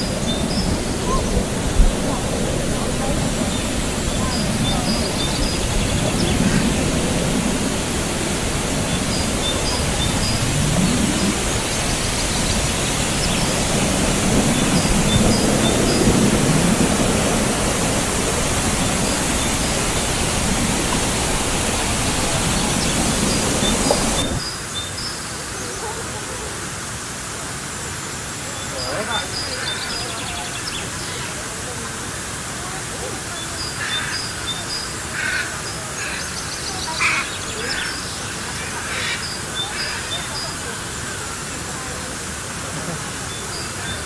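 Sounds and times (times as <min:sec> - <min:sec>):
waterfall pouring into pool: 0:00.0 - 0:44.0.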